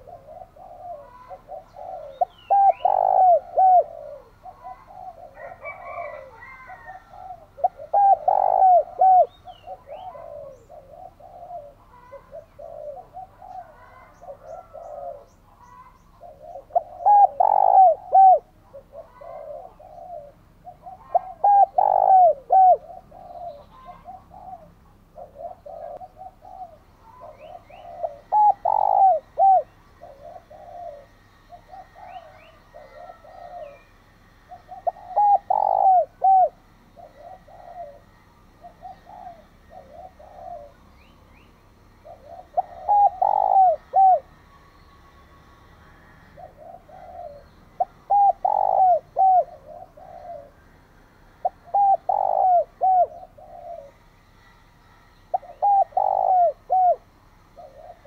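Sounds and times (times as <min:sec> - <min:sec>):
dove cooing: 0:00.0 - 0:54.4, 0:55.3 - 0:58.0.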